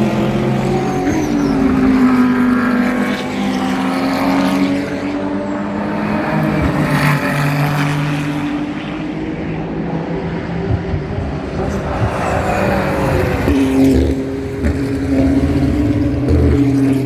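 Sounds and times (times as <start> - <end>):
car passing by: 0.0 - 17.0
race car engines at speed: 0.0 - 17.0.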